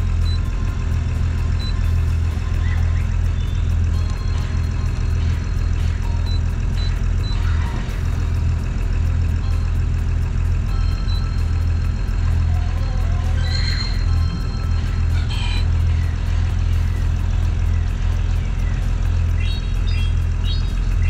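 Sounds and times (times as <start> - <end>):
marine diesel engine droning: 0.0 - 21.0.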